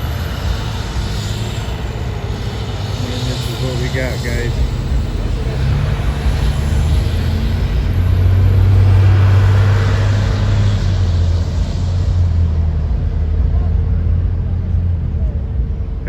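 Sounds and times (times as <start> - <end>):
road traffic drone: 0.0 - 16.0.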